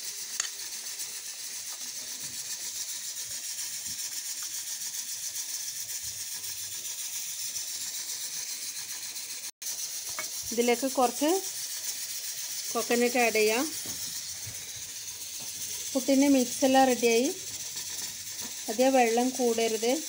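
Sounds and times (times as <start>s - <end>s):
flour being rubbed on a plate: 0.0s - 20.0s.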